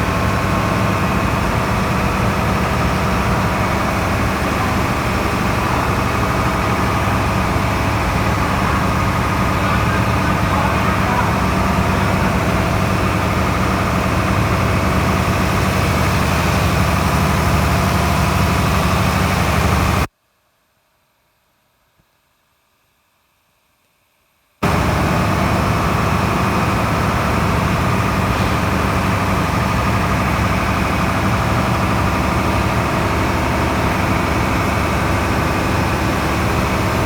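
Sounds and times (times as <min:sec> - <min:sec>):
diesel generator engine droning: 0:00.0 - 0:20.1, 0:24.6 - 0:37.0.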